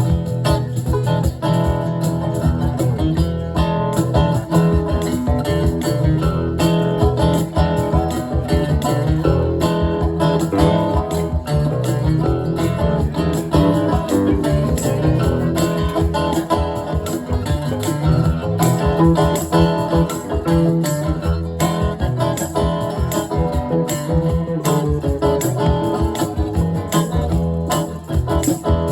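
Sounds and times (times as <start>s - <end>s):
low bass line: 0.0s - 28.9s
strummed guitar: 0.0s - 28.9s.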